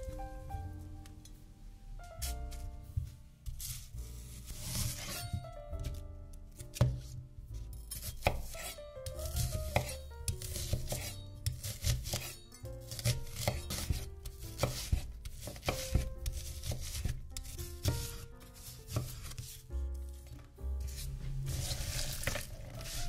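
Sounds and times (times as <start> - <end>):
soft background music: 0.0 - 23.0
knife chopping vegetables: 2.2 - 7.2, 7.9 - 23.0.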